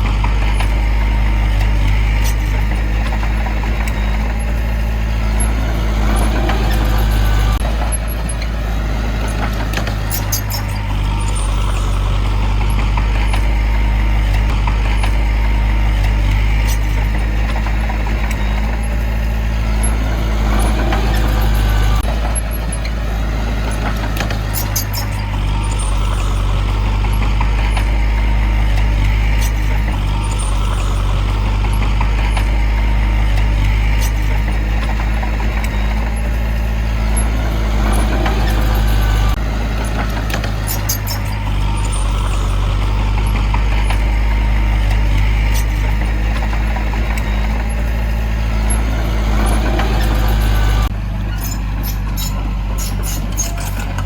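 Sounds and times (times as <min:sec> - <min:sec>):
heavy diesel engine under load: 0:00.0 - 0:54.0.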